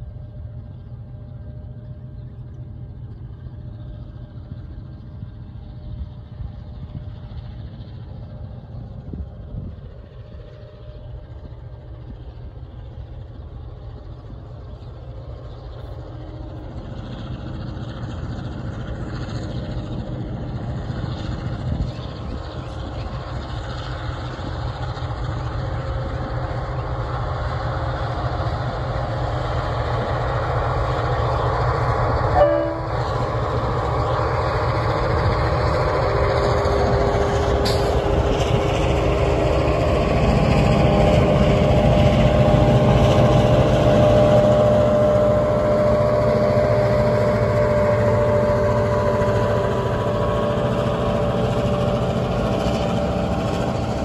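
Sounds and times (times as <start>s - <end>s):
freight train diesel engines rumbling: 0.0s - 54.0s.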